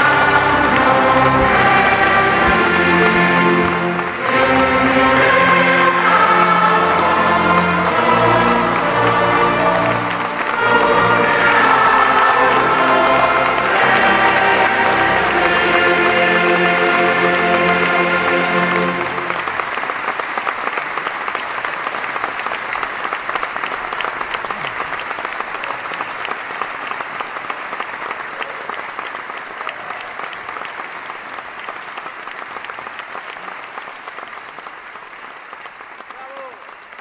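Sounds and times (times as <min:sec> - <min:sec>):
audience clapping: 0:00.0 - 0:37.0.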